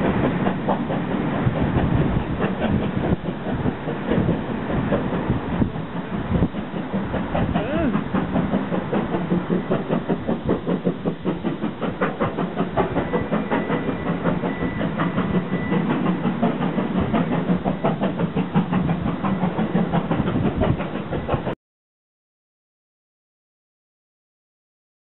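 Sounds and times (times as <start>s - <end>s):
train wheels clattering over rails: 0.0s - 21.6s.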